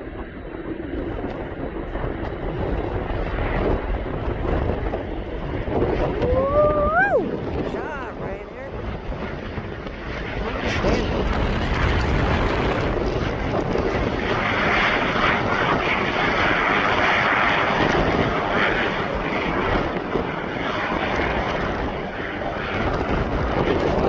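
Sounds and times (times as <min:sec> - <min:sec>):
airplane engines passing: 0:00.0 - 0:24.0.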